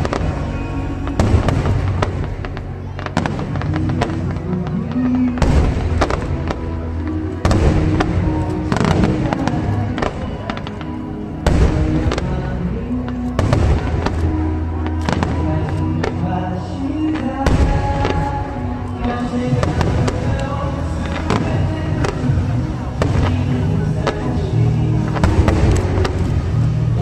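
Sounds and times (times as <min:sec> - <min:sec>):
fireworks bangs: 0:00.0 - 0:27.0
music playing: 0:00.0 - 0:27.0.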